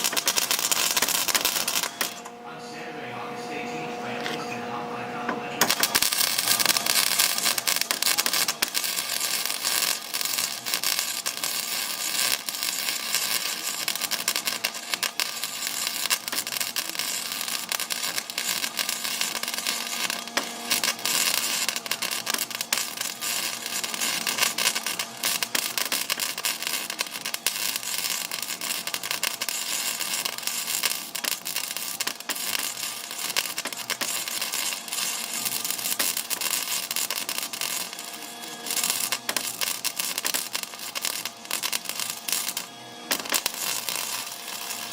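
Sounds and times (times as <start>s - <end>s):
welding arc crackling: 0.0s - 2.3s, 5.5s - 44.9s.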